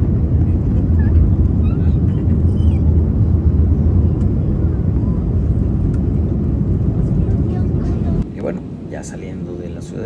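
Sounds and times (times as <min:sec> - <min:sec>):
air rushing along fuselage: 0:00.0 - 0:10.0
jet engines rumbling in cabin: 0:00.0 - 0:10.0.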